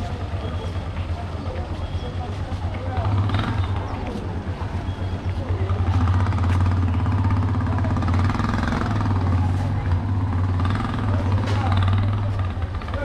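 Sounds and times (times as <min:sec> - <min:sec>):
motor engine droning: 0:00.0 - 0:13.0
street noise: 0:00.0 - 0:13.0.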